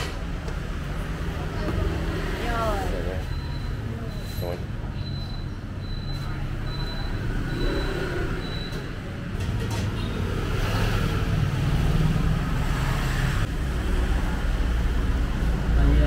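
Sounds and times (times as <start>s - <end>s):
low rumble of passing vehicles: 0.0s - 16.0s.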